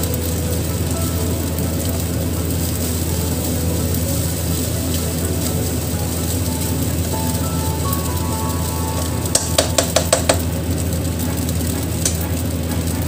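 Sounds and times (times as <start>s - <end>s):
spatula stirring rice in a wok: 0.1s - 13.0s.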